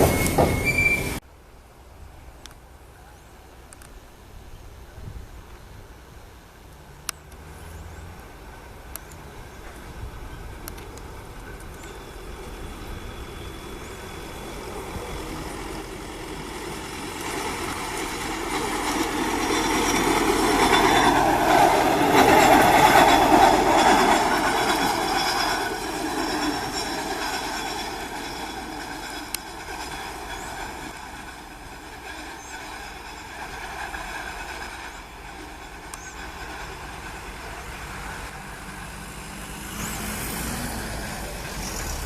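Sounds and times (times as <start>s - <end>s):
train passing on track: 0.0s - 1.6s, 4.8s - 42.0s.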